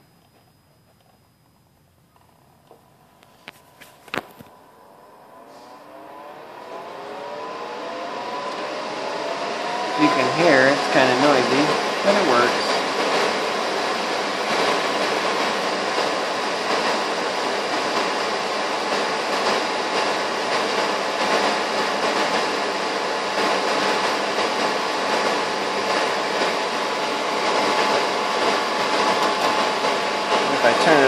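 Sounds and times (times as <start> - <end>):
fan air rush with whine: 0.0 - 31.0.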